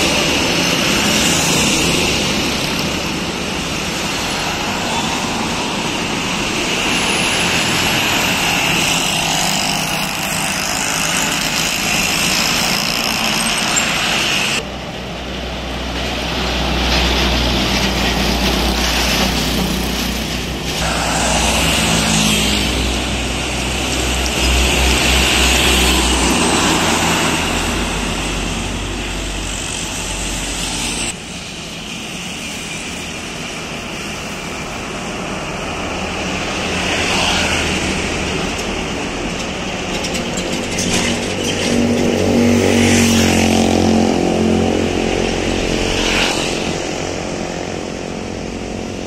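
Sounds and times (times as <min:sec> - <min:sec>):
diesel trucks passing: 0:00.0 - 0:49.0.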